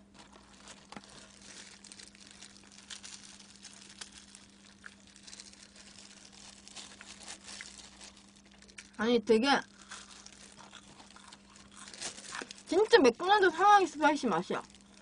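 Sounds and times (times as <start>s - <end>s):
plastic glove crinkling: 0.0s - 15.0s
steady low hum: 0.0s - 15.0s.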